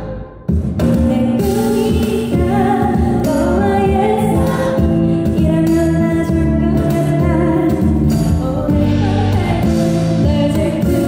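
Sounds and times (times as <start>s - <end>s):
instrumental accompaniment: 0.0s - 11.0s
woman singing into microphone: 0.0s - 11.0s.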